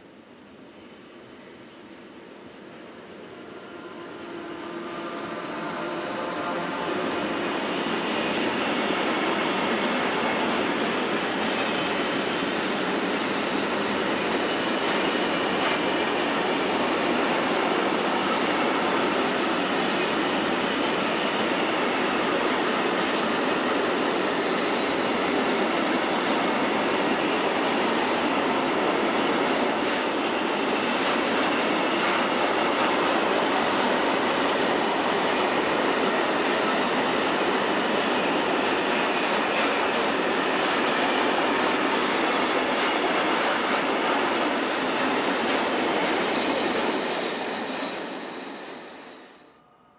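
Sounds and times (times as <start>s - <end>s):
train rumbling past on rails: 0.0s - 49.6s.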